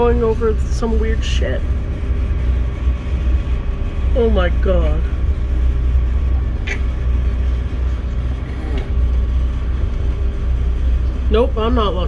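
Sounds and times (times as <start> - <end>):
train rumbling on board: 0.0 - 12.0.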